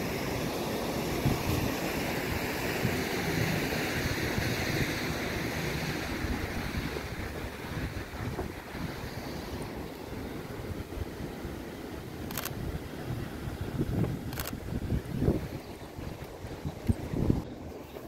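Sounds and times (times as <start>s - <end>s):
wind buffeting microphone: 1.0s - 11.5s, 12.2s - 18.0s.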